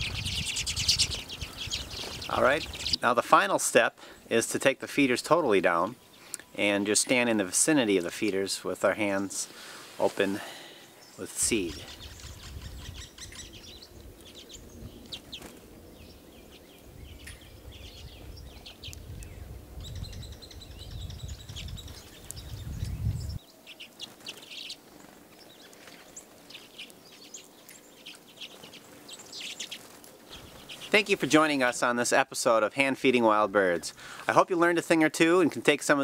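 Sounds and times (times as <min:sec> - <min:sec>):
birds chirping and twittering: 0:00.0 - 0:36.0.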